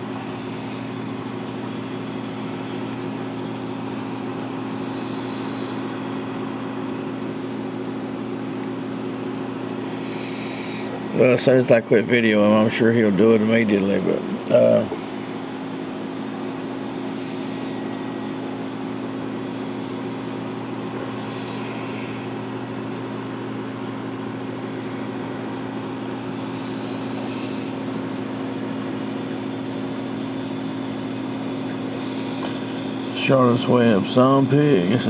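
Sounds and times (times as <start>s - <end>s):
electric motor hum: 0.0s - 35.0s.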